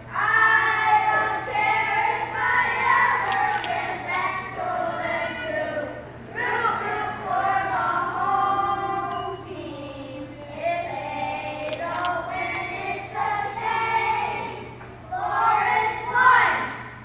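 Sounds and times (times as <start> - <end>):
children singing: 0.1 - 16.8.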